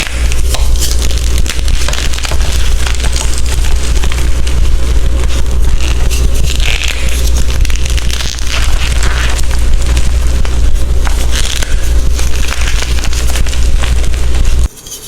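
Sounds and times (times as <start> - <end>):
low rumble: 0.0 - 14.7
chalk crushing and crackling: 0.0 - 14.8.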